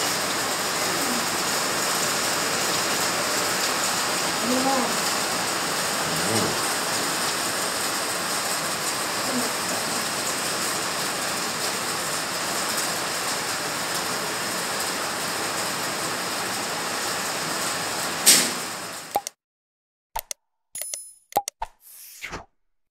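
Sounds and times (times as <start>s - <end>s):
rain and hail falling: 0.0s - 19.1s.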